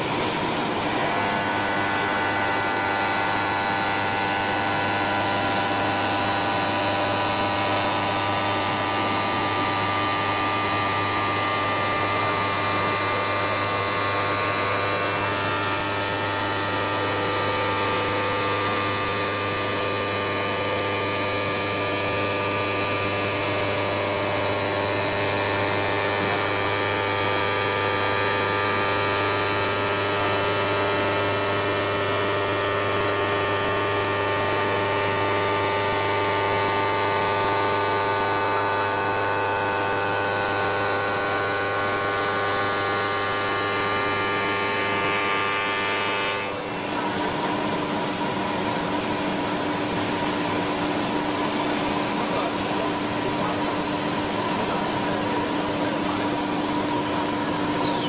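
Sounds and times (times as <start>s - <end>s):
stone-cutting router running: 0.0s - 58.0s.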